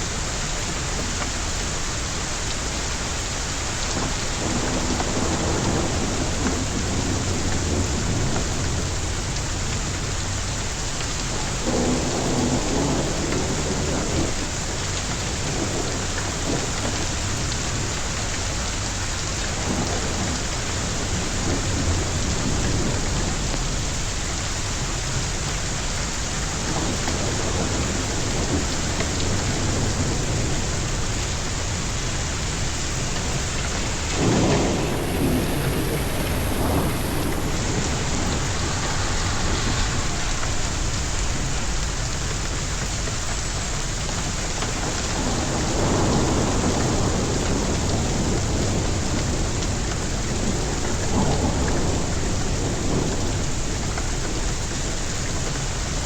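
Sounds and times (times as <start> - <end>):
heavy rain falling: 0.0 - 56.0
thunder rumbling: 0.0 - 56.0.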